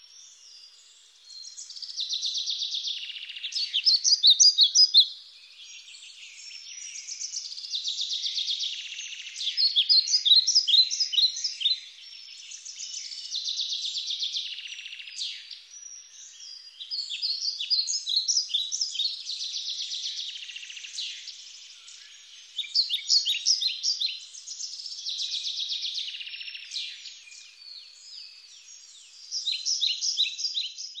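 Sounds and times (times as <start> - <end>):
songbird trilling and chirping: 0.0 - 31.0.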